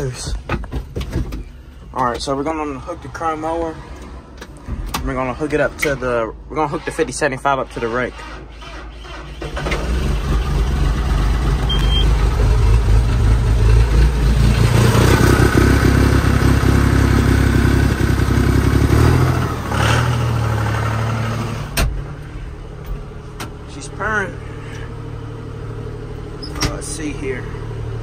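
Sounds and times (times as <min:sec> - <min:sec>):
tractor diesel engine droning: 0:05.4 - 0:28.0.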